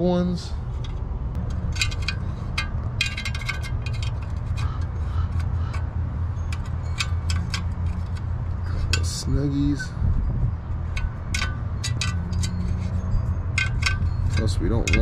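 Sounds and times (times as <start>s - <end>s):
steady low hum: 0.0s - 15.0s
metallic clicks of nuts being turned: 0.7s - 10.0s, 10.6s - 15.0s.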